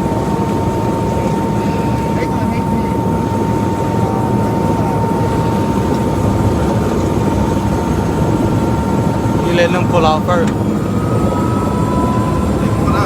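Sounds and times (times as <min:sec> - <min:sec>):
helicopter running: 0:00.0 - 0:13.0.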